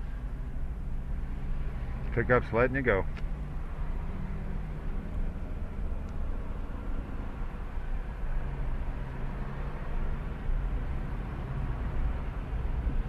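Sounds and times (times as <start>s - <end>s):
tyres on road: 0.0s - 13.0s
vehicle engine rumble: 0.0s - 13.0s.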